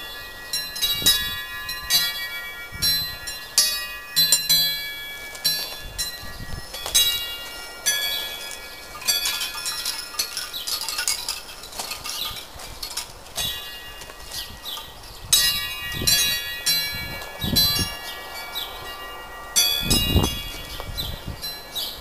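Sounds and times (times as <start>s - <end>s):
wind chimes ringing: 0.0s - 22.0s.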